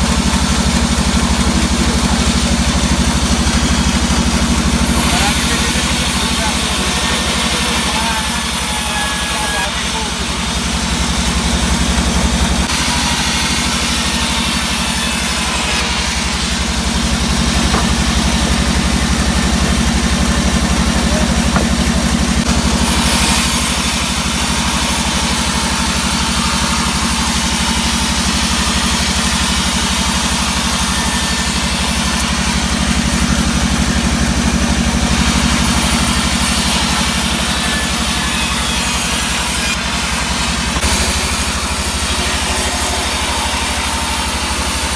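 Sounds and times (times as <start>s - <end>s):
sawmill engine drone: 0.0s - 44.9s.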